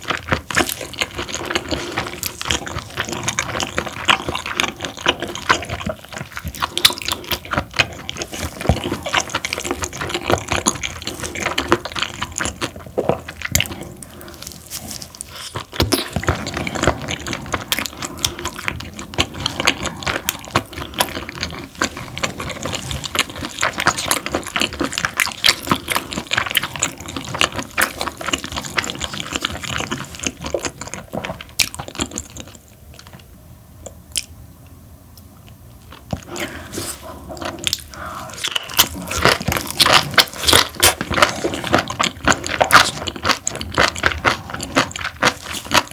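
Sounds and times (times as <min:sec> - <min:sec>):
wet chewing and mouth smacking: 0:00.0 - 0:34.4, 0:35.4 - 0:45.9.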